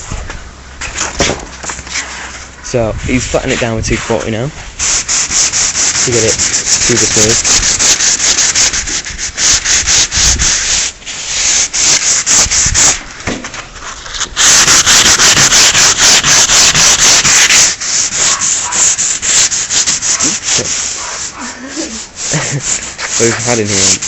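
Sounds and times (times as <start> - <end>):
sandpaper rubbing on metal: 1.9 - 13.1, 13.8 - 24.0.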